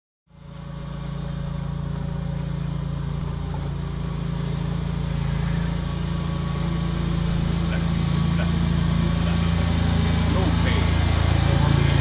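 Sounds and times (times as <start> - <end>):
engine idling: 0.3 - 12.0.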